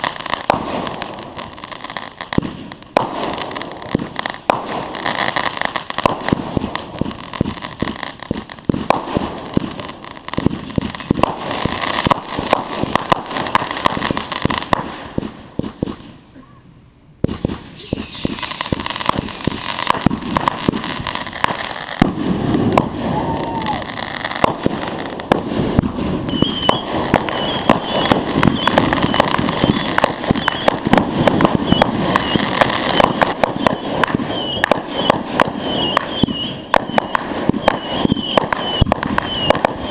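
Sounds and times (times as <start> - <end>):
fireworks crackling and popping: 0.0 - 16.4, 17.2 - 39.9.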